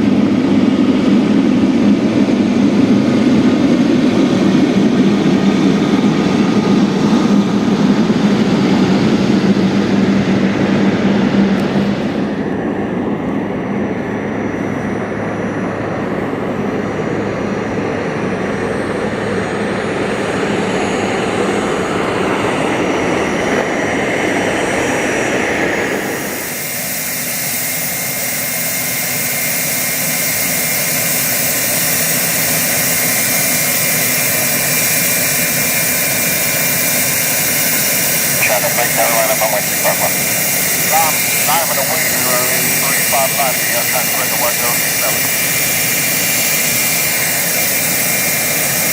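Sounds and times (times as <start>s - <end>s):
jet engines whining at taxi power: 0.0s - 48.9s.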